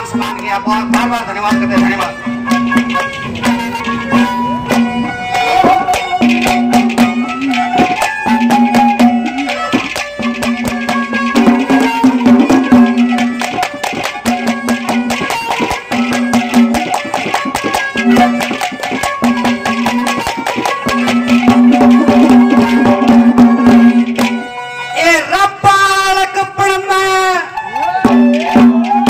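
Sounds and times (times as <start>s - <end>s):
hand drum strokes: 0.0s - 25.0s, 27.6s - 29.0s
melody instrument: 0.0s - 25.1s.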